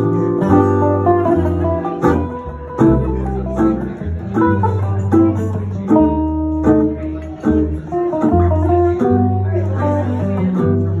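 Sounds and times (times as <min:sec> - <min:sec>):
acoustic guitars playing: 0:00.0 - 0:11.0
plucked double bass: 0:00.0 - 0:11.0.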